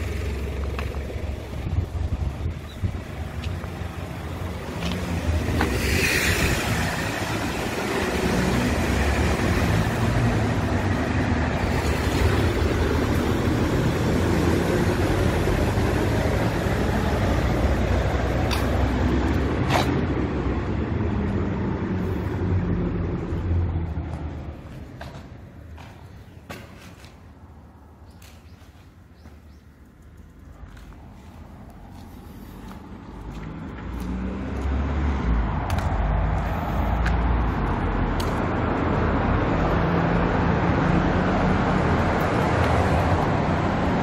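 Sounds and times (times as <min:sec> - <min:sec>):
vehicle rumbling through tunnel: 0:00.0 - 0:44.0.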